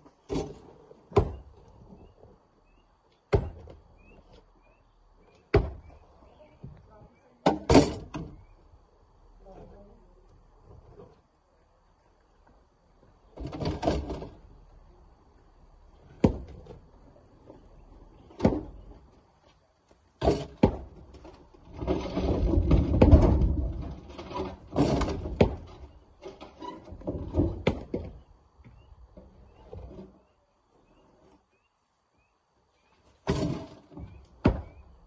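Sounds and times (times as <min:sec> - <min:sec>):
rocks tumbling and scraping: 0:00.0 - 0:08.5, 0:12.4 - 0:14.8, 0:16.0 - 0:31.7, 0:32.9 - 0:35.0.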